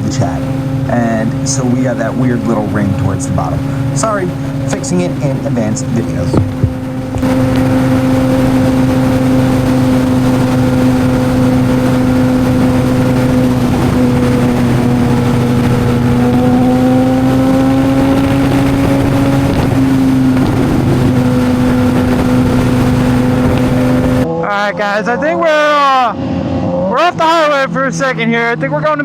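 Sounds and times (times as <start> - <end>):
wind rush on microphone: 0.0 - 24.4
motorcycle engine cruising: 0.0 - 29.0.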